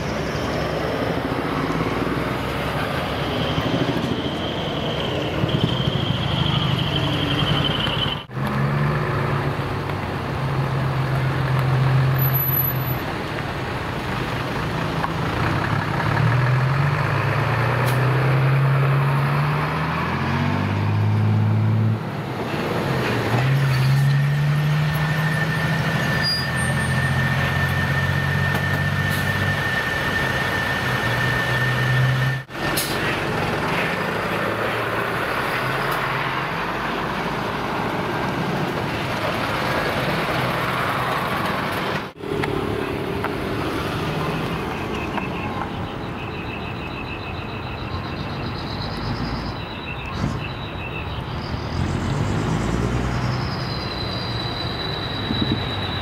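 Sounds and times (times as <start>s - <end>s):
truck diesel engine accelerating: 0.0s - 46.1s, 51.0s - 56.0s.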